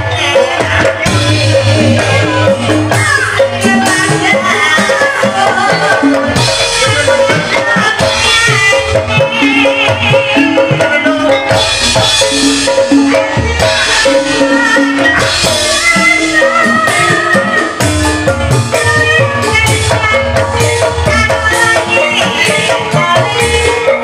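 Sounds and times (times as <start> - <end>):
gongs and metallophones melody: 0.0 - 24.0.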